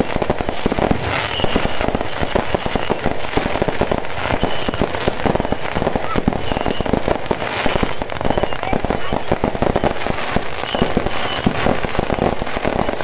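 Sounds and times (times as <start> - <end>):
fireworks and firecrackers popping: 0.0 - 13.0.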